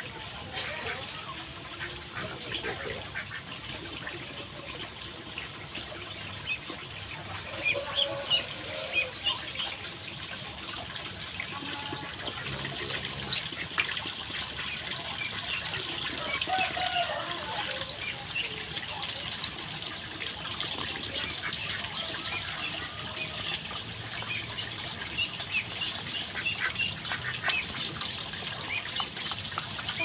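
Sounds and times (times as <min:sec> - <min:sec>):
trickle of spring water: 0:00.0 - 0:30.0.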